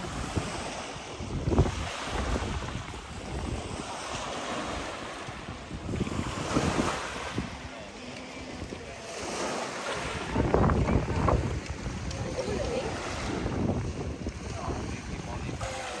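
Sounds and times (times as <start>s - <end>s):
water lapping at shore: 0.0s - 16.0s
wind rumble on microphone: 0.0s - 16.0s.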